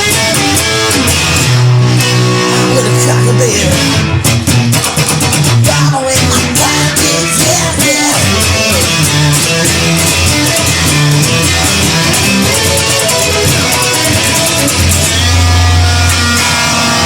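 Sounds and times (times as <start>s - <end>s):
bass: 0.0s - 17.0s
drums: 0.0s - 17.0s
guitar: 0.0s - 17.0s.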